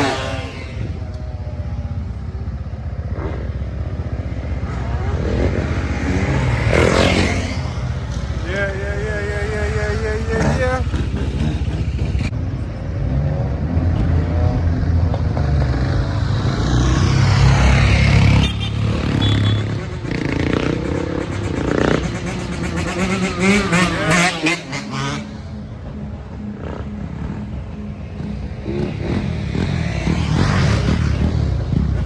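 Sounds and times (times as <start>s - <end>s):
motorbike engines revving: 0.0s - 32.0s.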